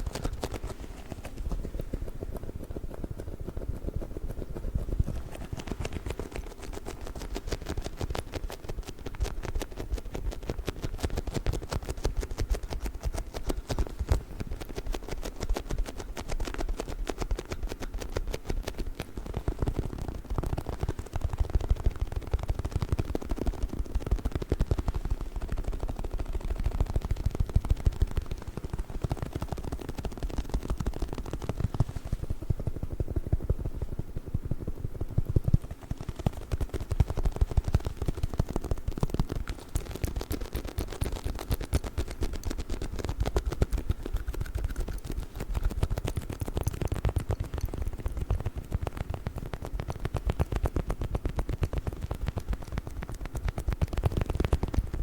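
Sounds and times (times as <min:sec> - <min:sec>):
rubber toy tapping and clicking: 0:00.0 - 0:31.9, 0:35.1 - 0:55.0.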